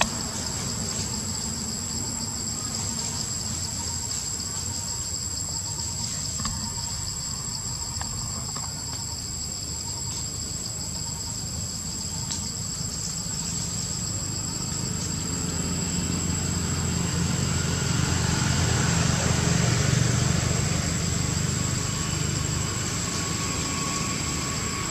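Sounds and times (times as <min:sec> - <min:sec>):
insects droning: 0:00.0 - 0:24.9
low engine rumble: 0:00.0 - 0:24.9.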